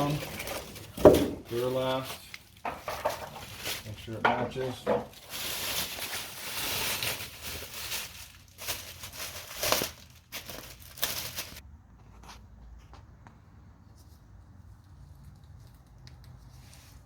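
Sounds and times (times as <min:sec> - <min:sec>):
rustling and crinkling handling: 0:00.0 - 0:17.0.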